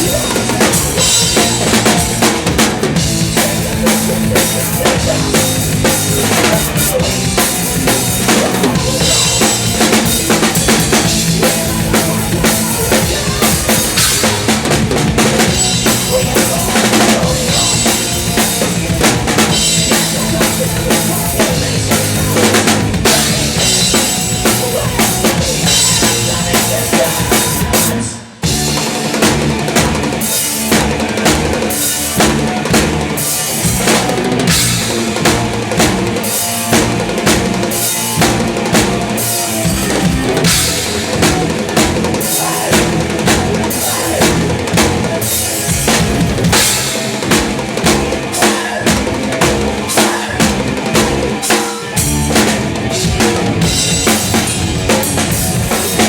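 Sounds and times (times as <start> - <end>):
fast bass drum and snare: 0.0 - 56.0
thrash metal band playing: 0.0 - 56.0.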